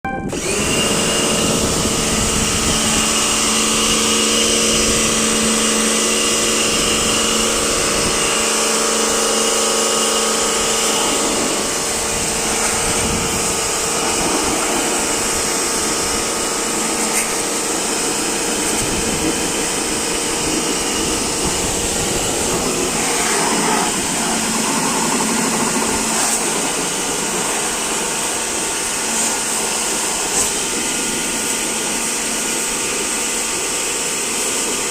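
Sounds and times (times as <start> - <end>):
electric motor running: 0.3 - 34.7
loud hiss: 1.4 - 34.9.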